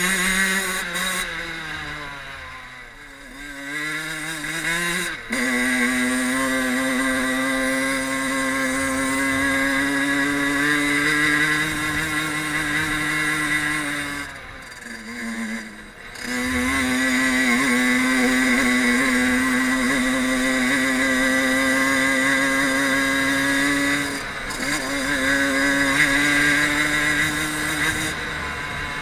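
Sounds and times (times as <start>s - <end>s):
two-stroke engine running: 0.0s - 29.0s.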